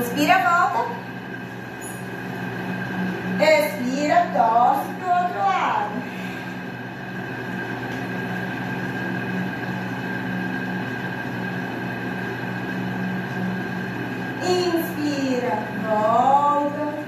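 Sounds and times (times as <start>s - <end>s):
droning hum with held tones: 0.0s - 17.0s.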